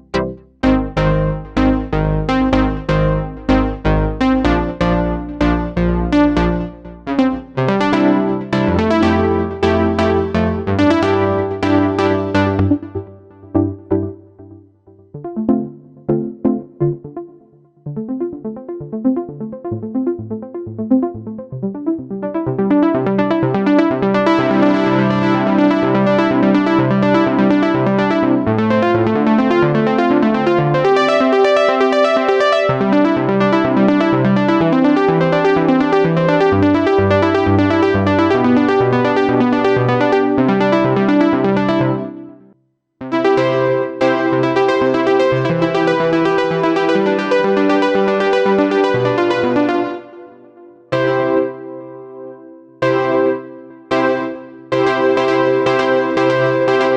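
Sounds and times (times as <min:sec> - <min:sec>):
synthesizer chord phrase: 0:00.0 - 0:56.9.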